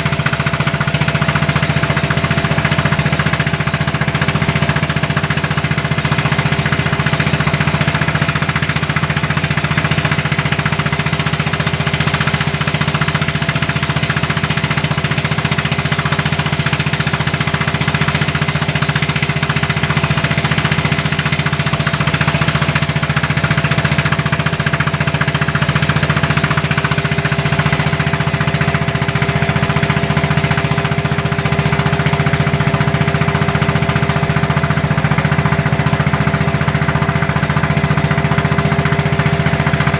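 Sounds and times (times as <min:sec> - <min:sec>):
boat diesel engine chugging: 0:00.0 - 0:39.9.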